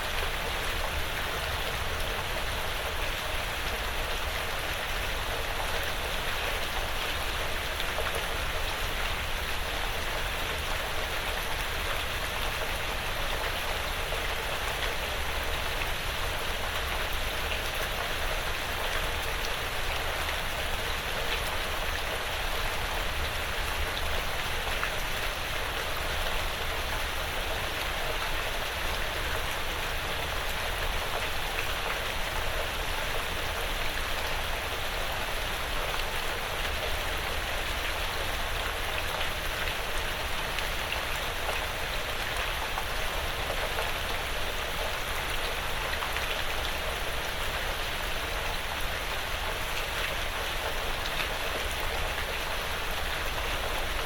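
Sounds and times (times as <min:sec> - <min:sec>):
rain pattering on porch roof: 0:00.0 - 0:54.0.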